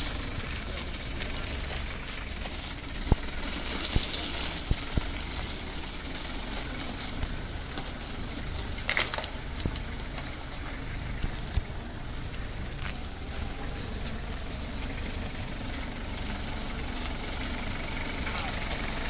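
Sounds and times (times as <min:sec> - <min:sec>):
tractor diesel engines running: 0:00.0 - 0:19.0.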